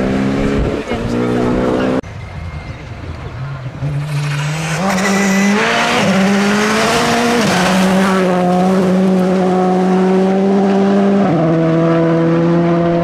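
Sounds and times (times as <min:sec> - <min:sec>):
rally car engine at high revs: 0:00.0 - 0:02.0, 0:03.8 - 0:13.0.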